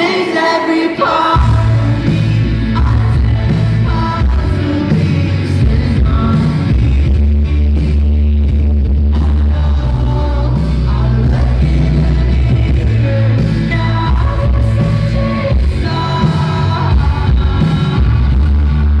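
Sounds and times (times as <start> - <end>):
person singing: 0.0 - 7.3, 9.1 - 19.0
live pop-rock song: 0.0 - 19.0
heavy bass: 1.4 - 19.0.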